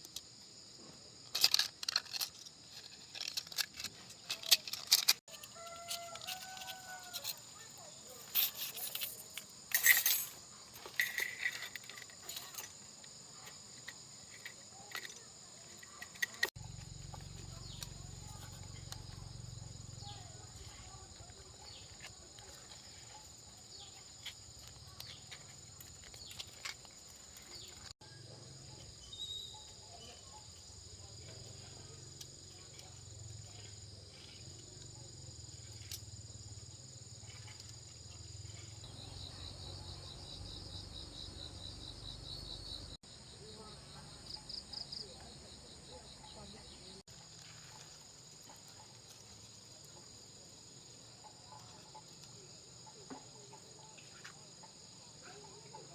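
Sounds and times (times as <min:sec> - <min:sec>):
insects chirring: 0:00.0 - 0:55.9.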